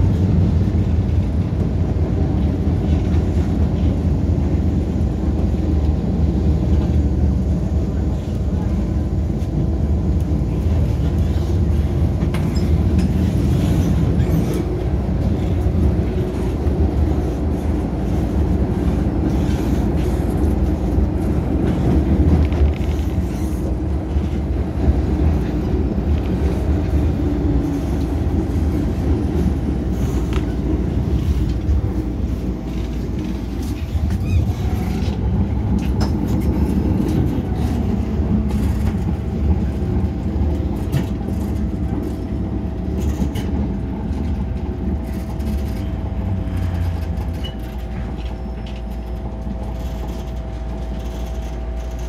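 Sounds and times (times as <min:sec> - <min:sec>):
train wheels rumbling: 0:00.0 - 0:52.0.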